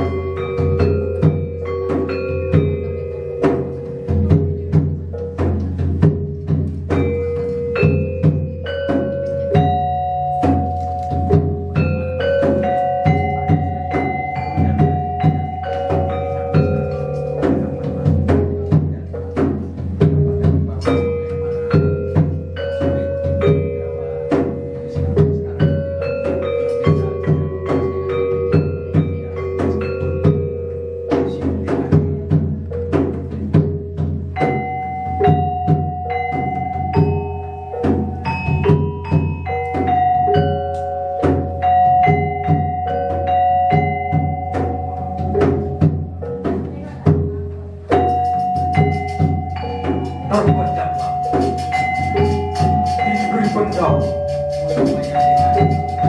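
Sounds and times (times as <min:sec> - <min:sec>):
gamelan ensemble playing: 0:00.0 - 0:56.0.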